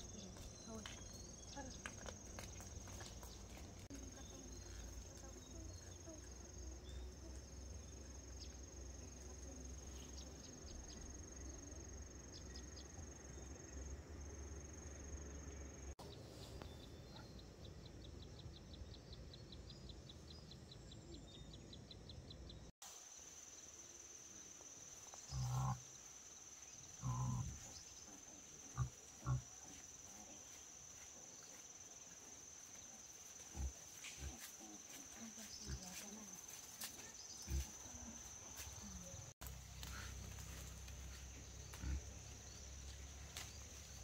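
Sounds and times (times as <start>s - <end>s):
insects chirping: 0.0s - 16.0s, 16.6s - 44.0s.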